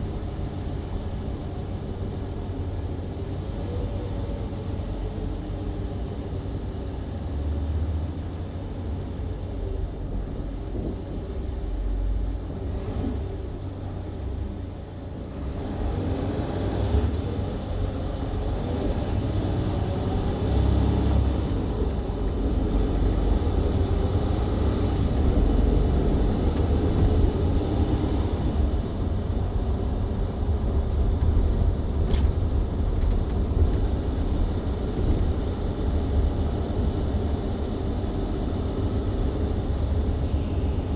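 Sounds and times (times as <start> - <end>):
bus diesel engine rumble: 0.0 - 40.9.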